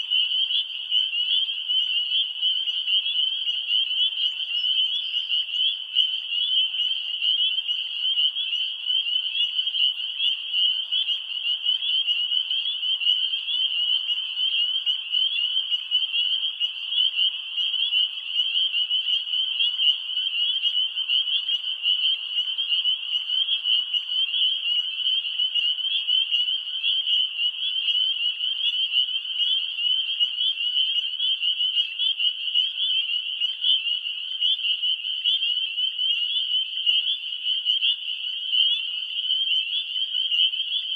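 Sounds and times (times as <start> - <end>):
chorus of frogs peeping: 0.0 - 40.9.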